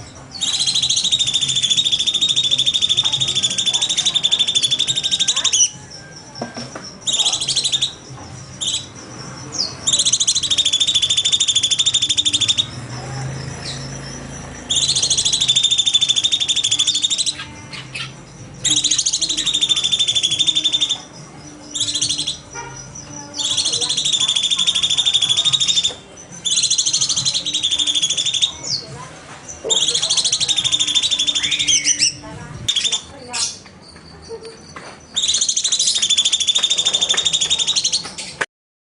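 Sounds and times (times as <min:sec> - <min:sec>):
bird singing buzzy trills: 0:00.0 - 0:38.5.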